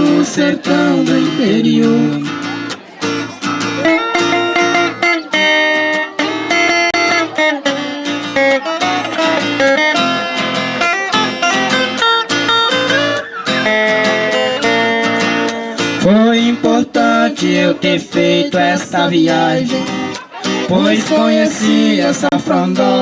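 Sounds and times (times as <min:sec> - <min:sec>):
acoustic guitars plucking melody: 0:00.0 - 0:23.0.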